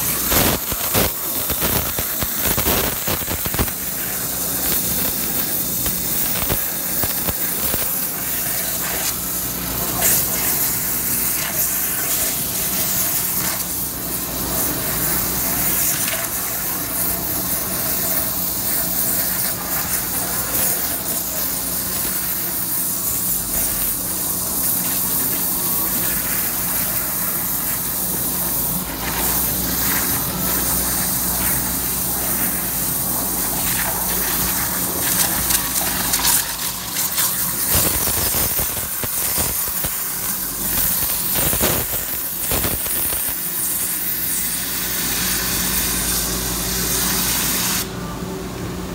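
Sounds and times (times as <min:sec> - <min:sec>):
water jet hissing: 0:00.0 - 0:47.9.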